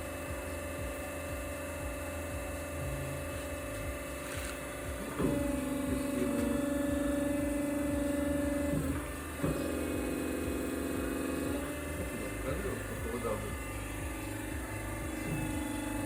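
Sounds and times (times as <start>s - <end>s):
band saw motor hum: 0.0s - 16.0s
loud steady pump hum: 0.0s - 16.0s.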